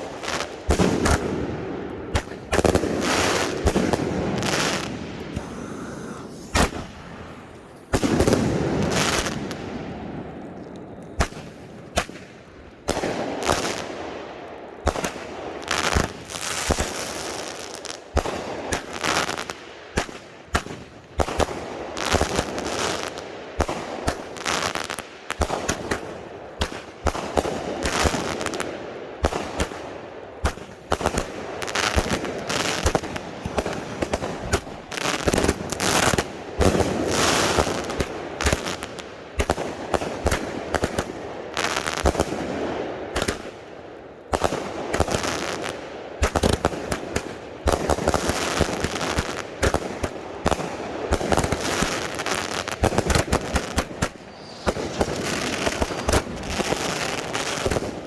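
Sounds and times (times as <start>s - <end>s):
fireworks firing in volleys: 0.0s - 58.0s.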